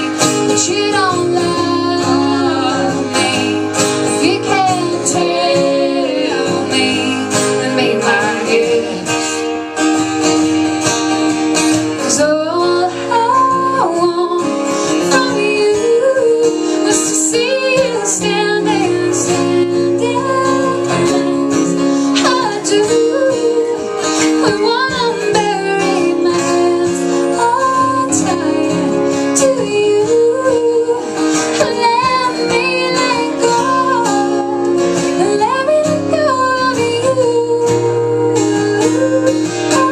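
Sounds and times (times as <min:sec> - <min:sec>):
acoustic guitar: 0:00.0 - 0:39.9
woman singing country song: 0:00.0 - 0:39.9.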